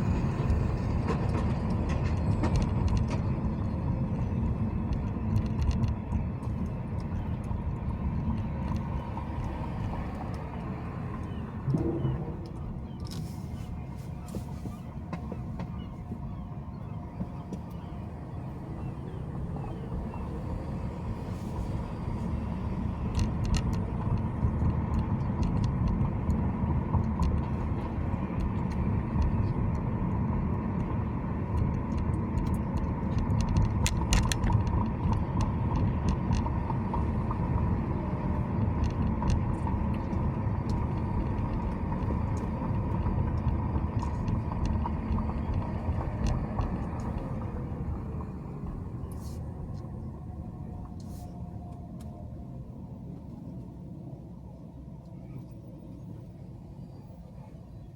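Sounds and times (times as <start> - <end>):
car road and engine rumble: 0.0 - 57.9.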